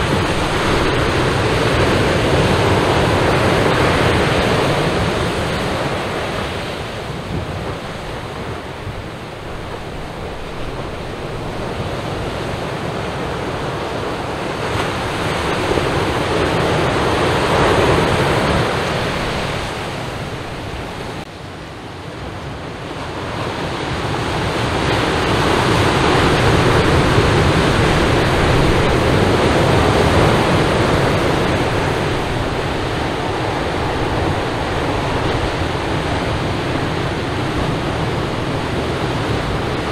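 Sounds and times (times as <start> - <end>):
heavy surf breaking on beach: 0.0 - 39.9.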